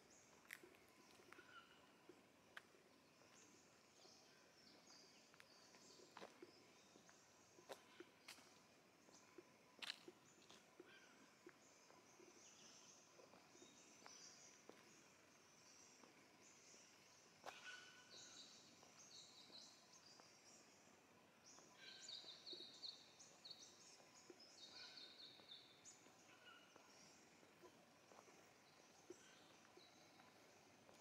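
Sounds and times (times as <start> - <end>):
small birds chirping and trilling: 0.0 - 31.0.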